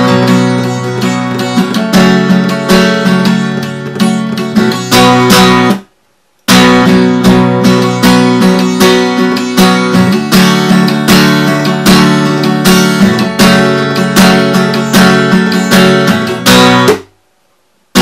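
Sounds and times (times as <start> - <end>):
acoustic guitar strumming chords: 0.0 - 5.9, 6.5 - 17.2.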